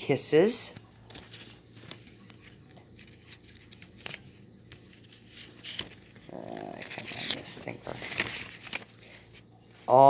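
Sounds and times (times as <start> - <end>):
paper rustling: 0.7 - 10.0.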